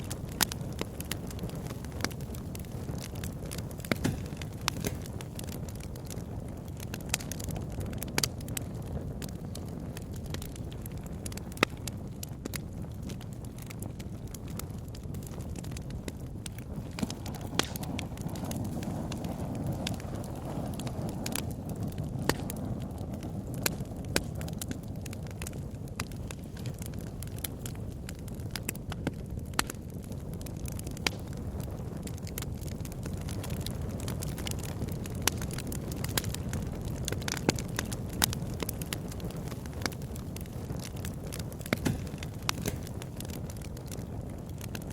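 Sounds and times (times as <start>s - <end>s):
bonfire crackling and popping: 0.0s - 44.9s
low fire rumble: 0.0s - 44.9s.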